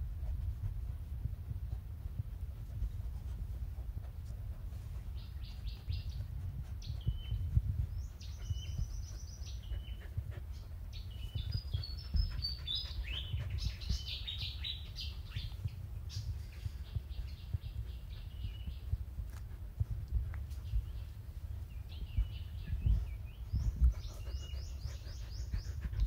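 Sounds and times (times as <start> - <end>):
low rumble: 0.0 - 26.0
small birds chirping: 2.6 - 26.0.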